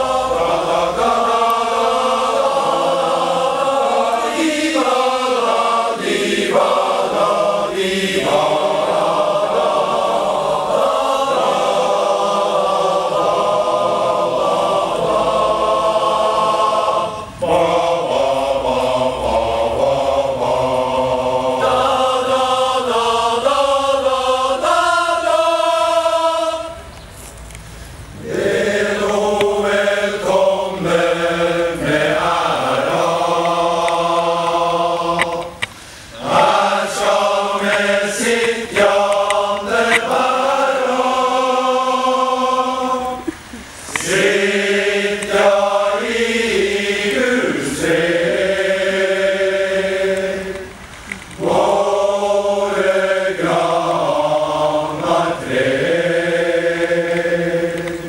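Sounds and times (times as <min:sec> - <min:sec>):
men's choir singing in harmony: 0:00.0 - 0:26.9, 0:28.1 - 0:58.0.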